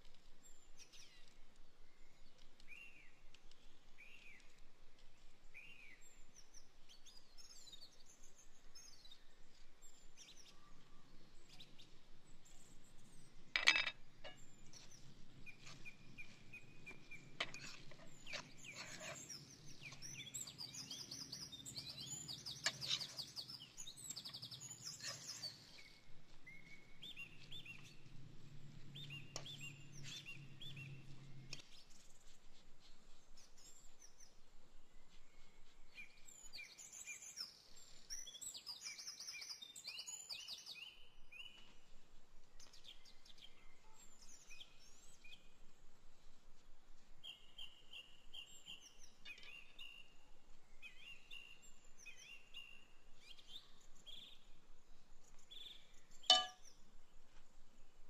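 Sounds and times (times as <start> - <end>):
small birds chirping: 0.3 - 45.6, 47.1 - 57.4.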